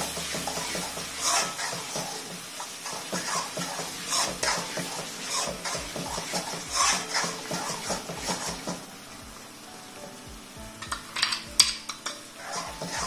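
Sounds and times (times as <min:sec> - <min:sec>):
spoon scraping metal pan: 0:00.3 - 0:08.8, 0:10.8 - 0:13.0.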